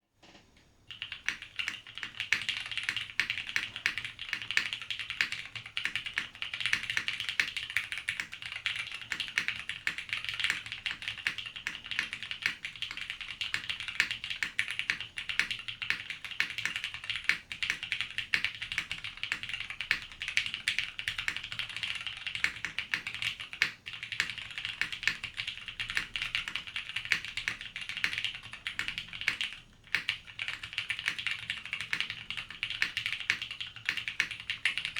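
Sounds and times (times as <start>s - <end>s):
fast typing on mechanical keyboard: 0.9s - 34.9s.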